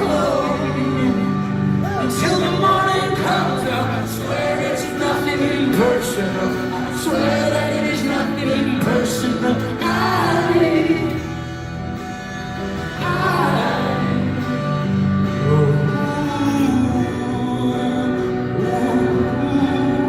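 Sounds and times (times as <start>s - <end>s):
wordless singing: 0.0s - 11.8s, 12.8s - 20.0s
band playing held chords: 0.0s - 20.0s.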